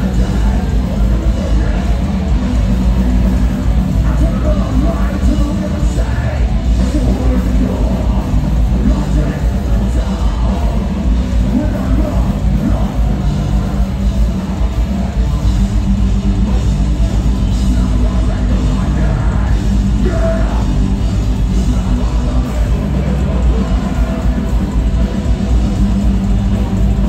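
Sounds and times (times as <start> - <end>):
distorted electric guitars: 0.0 - 27.0
keyboard: 0.0 - 27.0.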